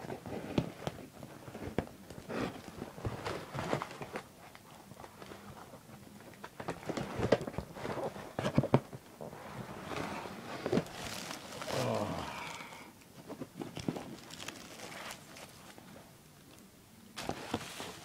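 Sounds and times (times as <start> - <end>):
wrapping rustling and crinkling: 0.0 - 16.6, 17.2 - 18.0.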